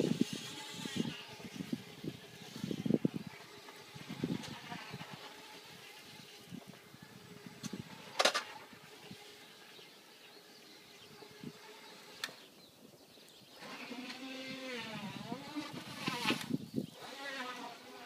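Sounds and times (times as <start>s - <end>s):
electric scooter motor whining: 0.0s - 18.0s.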